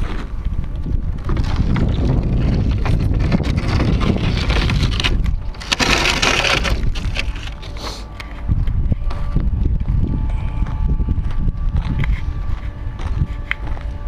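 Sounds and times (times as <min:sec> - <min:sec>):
wind buffeting microphone: 0:00.0 - 0:07.7, 0:08.3 - 0:14.0
footsteps crunching on gravel: 0:00.0 - 0:09.3, 0:10.6 - 0:14.0
scraping crunching noise: 0:00.0 - 0:14.0.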